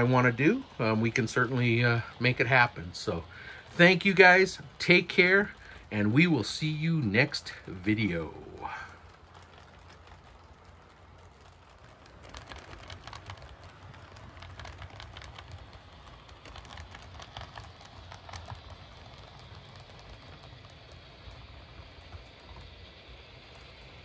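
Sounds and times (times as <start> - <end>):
faint low hum: 0.0 - 24.0
model train wheels clicking: 0.0 - 24.0.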